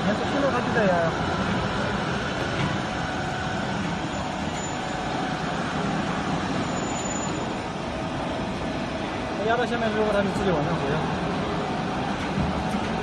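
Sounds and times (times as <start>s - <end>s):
hydraulic motor and pump whine: 0.0s - 13.0s.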